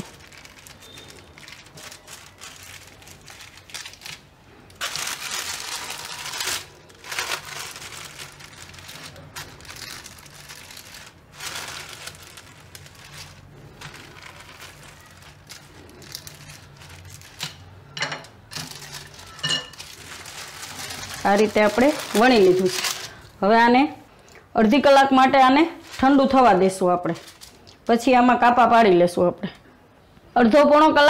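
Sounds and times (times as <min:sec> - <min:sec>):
plastic sheet crinkling: 0:00.0 - 0:23.4, 0:24.8 - 0:28.1.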